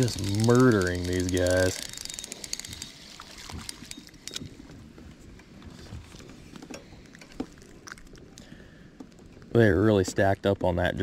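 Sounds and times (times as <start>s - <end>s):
small clicks and rustling: 0.0s - 11.0s.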